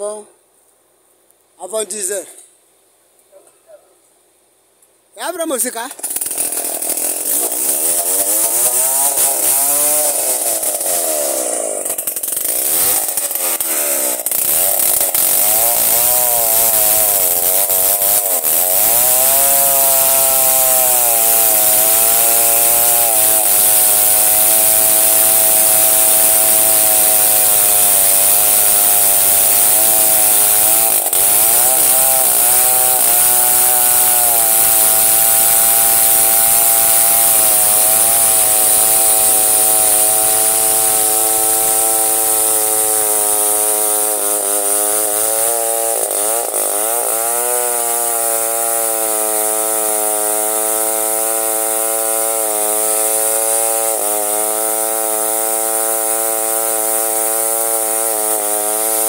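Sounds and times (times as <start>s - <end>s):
chainsaw cutting log: 5.2s - 59.0s.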